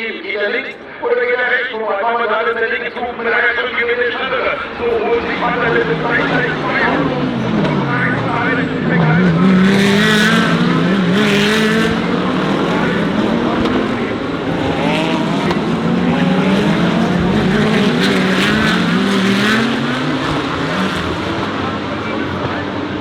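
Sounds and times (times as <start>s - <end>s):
race car engines: 0.0s - 23.0s.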